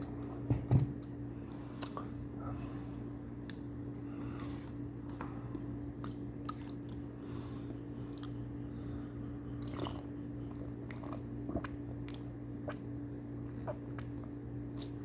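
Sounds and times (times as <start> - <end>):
steady low hum: 0.0 - 15.0
person chewing food: 1.0 - 2.2, 3.4 - 15.0.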